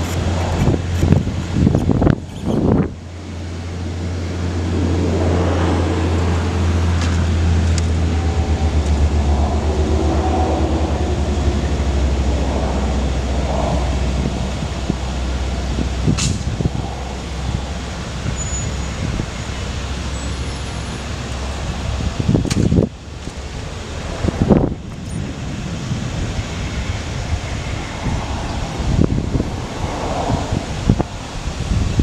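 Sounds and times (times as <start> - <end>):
truck engine droning: 0.0 - 32.0.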